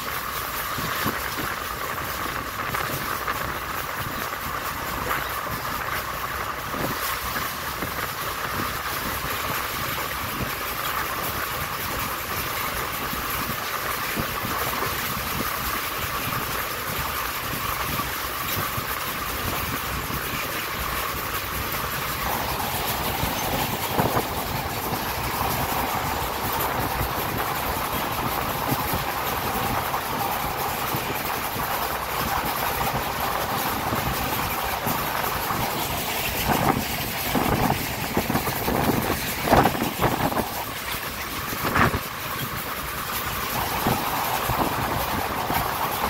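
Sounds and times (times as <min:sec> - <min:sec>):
diesel locomotive engine: 0:00.0 - 0:46.0
sharp train clack: 0:00.0 - 0:46.0
train wheels rumbling on rail: 0:00.0 - 0:46.0.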